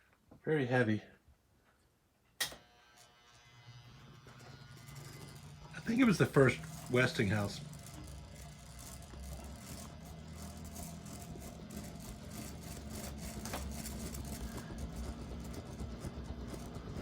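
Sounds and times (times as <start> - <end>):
ceiling fan motor humming: 2.6 - 17.0.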